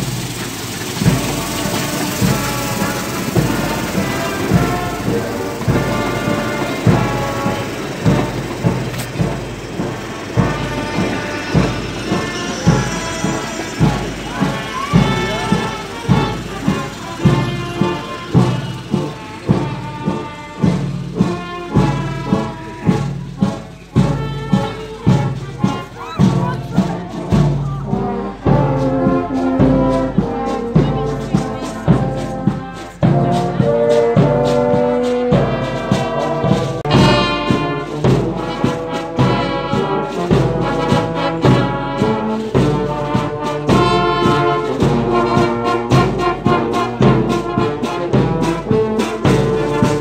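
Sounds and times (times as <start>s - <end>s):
brass band playing: 0.0s - 50.0s
drums keeping a steady beat: 0.0s - 50.0s.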